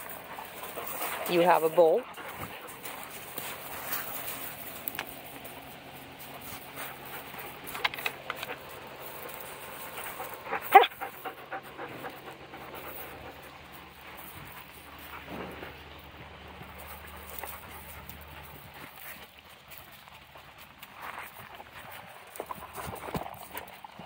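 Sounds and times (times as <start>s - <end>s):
young dogs panting: 0.0s - 24.0s.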